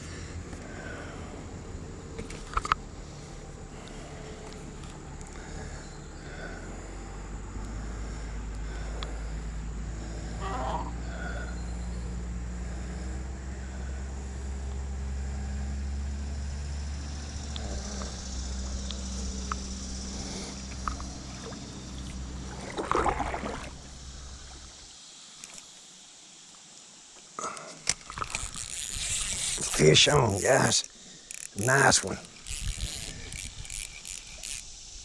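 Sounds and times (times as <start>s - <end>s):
small boat motor humming: 0.0s - 24.9s, 27.9s - 35.0s.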